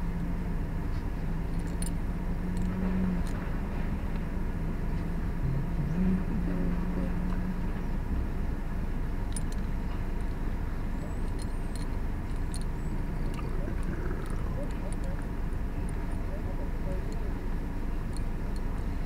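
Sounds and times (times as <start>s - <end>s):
car engine idling: 0.0s - 19.0s
low hum: 0.0s - 19.0s.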